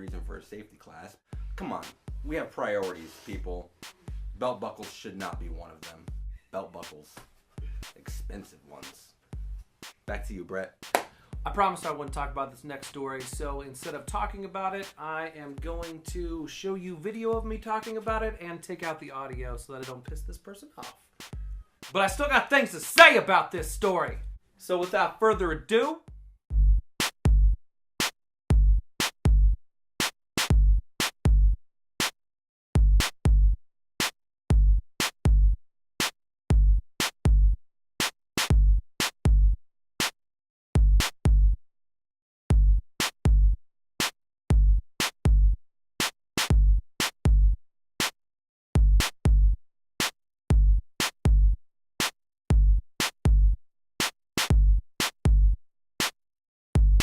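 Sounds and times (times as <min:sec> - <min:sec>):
electronic drum beat: 0:01.4 - 0:06.2, 0:07.6 - 0:16.4, 0:17.3 - 0:32.1, 0:32.8 - 0:40.1, 0:40.8 - 0:41.5, 0:42.5 - 0:48.1, 0:48.8 - 0:56.1, 0:56.8 - 0:57.0.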